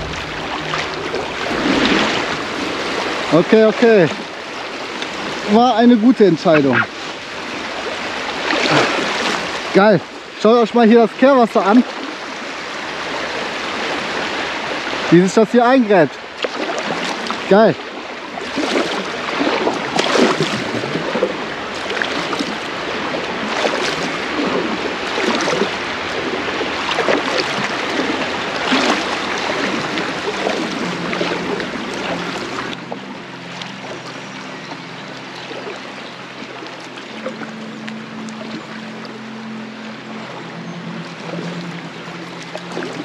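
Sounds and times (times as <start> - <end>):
paddle strokes splashing: 0.0 - 10.4, 15.9 - 43.0
river current rushing: 0.0 - 43.0.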